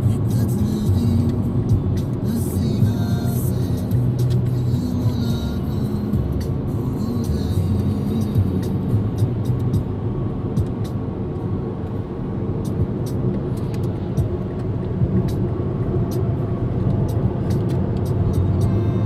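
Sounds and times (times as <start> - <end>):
car engine: 0.0 - 19.0
tyres rumbling on road: 0.0 - 19.0.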